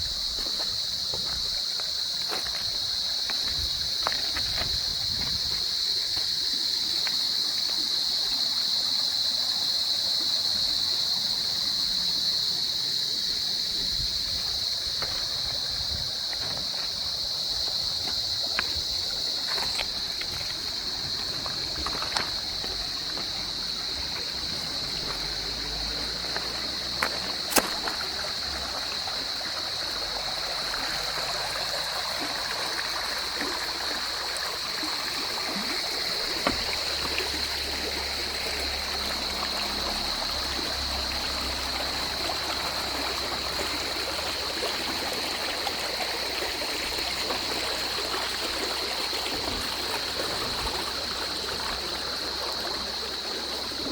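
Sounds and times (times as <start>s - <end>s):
stream flowing over rocks: 0.0s - 53.9s.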